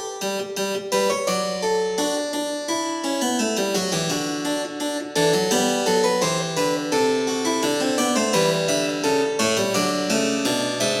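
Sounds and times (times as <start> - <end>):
harpsichord-like keyboard tune: 0.0 - 11.0.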